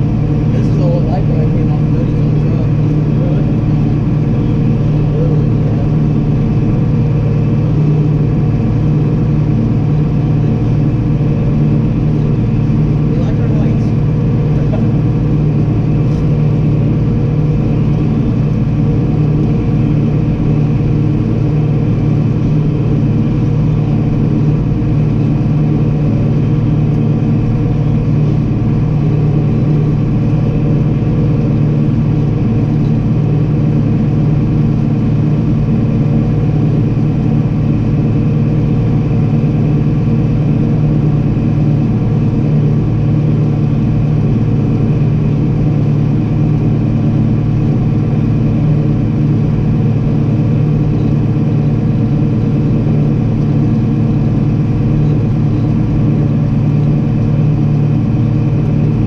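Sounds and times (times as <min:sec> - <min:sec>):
harvest machinery engine droning: 0:00.0 - 0:59.0.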